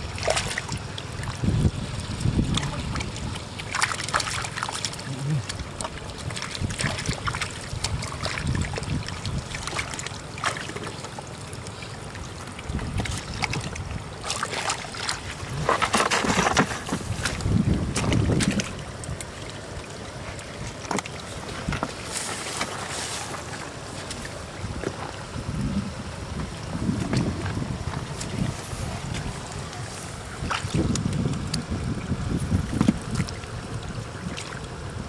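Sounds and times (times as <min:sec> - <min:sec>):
wind rumbling on microphone: 0:00.0 - 0:10.0, 0:12.2 - 0:35.0.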